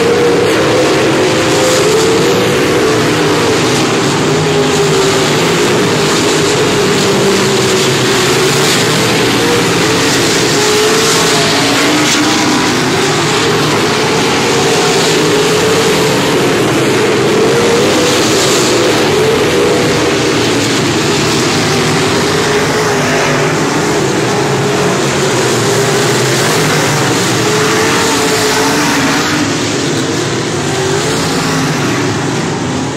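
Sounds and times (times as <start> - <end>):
race car engines droning: 0.0 - 32.9.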